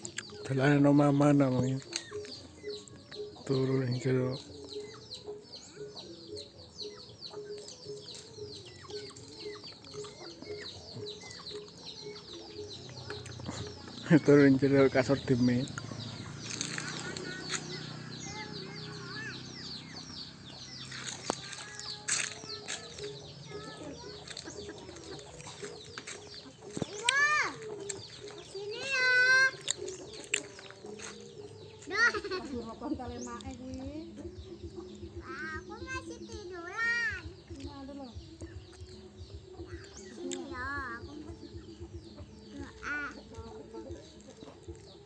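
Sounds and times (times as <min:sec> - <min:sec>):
chickens clucking: 0:00.0 - 0:45.0
small birds chirping: 0:00.0 - 0:45.0.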